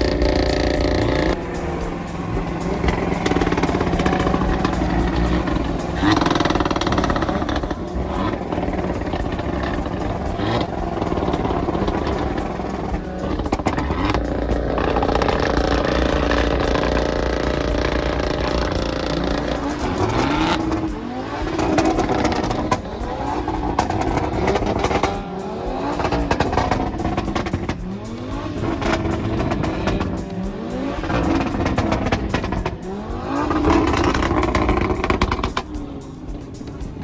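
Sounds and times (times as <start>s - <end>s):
car engine accelerating through gears: 0.0s - 37.0s.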